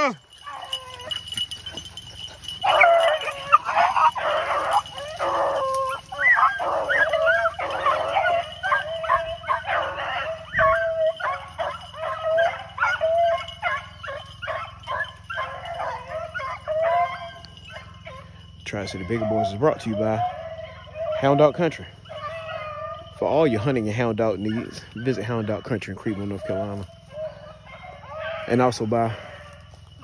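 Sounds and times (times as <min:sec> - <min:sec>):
hounds baying and barking: 0:00.0 - 0:30.0.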